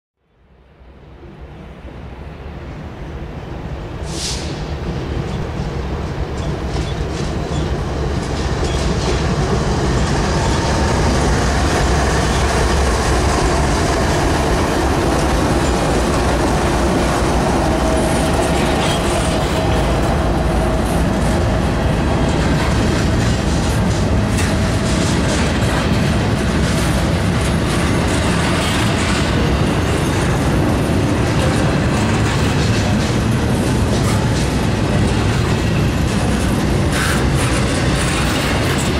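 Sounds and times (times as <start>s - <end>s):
freight train locomotives: 0.3s - 38.9s
train wheels clickety-clack on rails: 3.1s - 38.9s.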